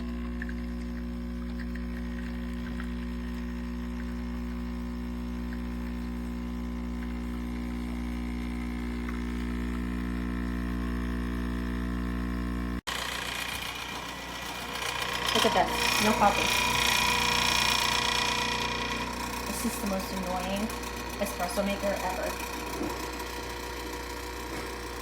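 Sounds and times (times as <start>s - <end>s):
espresso machine pump humming: 0.0s - 25.0s.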